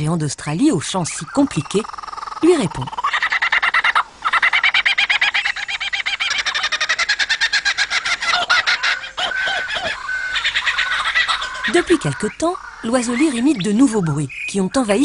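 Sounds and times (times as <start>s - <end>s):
kookaburra calling: 0.9s - 15.0s
lyrebird imitating kookaburra: 1.1s - 14.5s.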